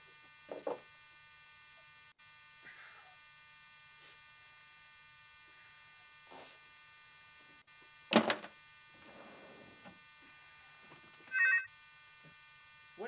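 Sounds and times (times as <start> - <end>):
faint electrical buzz: 0.0 - 13.0.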